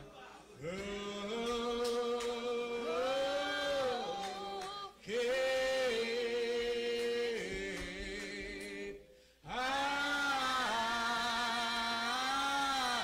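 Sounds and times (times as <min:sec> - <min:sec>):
congregation singing a hymn: 0:00.6 - 0:13.0.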